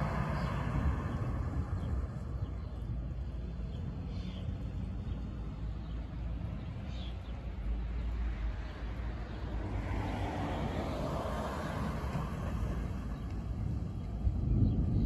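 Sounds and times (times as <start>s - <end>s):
wind buffeting microphone: 0.0s - 7.5s, 9.0s - 15.0s.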